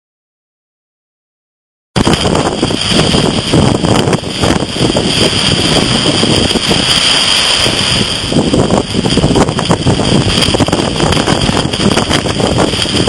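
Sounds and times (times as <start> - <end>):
breaking surf: 2.0 - 13.0
strong wind buffeting microphone: 2.0 - 13.0.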